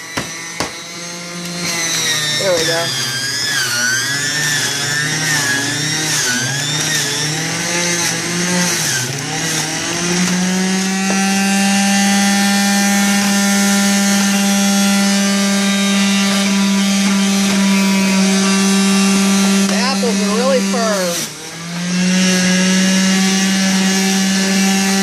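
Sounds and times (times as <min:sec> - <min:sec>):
juicer motor running: 0:00.0 - 0:25.0.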